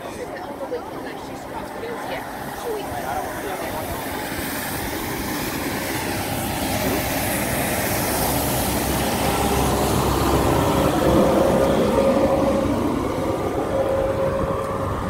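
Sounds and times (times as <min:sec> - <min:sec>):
steady whine: 0:00.0 - 0:15.0
street sweeper drone: 0:00.0 - 0:15.0.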